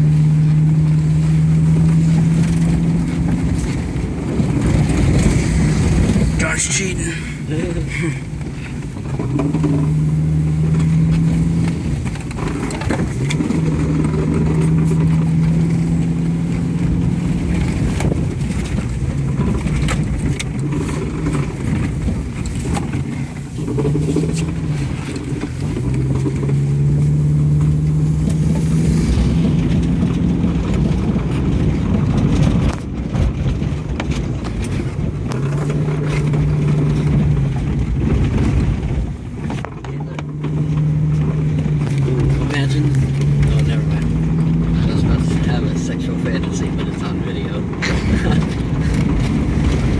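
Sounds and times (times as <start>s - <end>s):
car engine accelerating: 0.0s - 49.9s
tyres on gravel: 0.0s - 49.9s.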